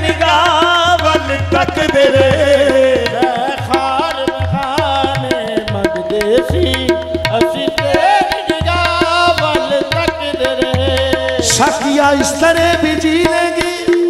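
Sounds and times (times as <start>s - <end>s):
harmonium melody: 0.0s - 14.0s
tabla rhythm: 0.0s - 14.0s.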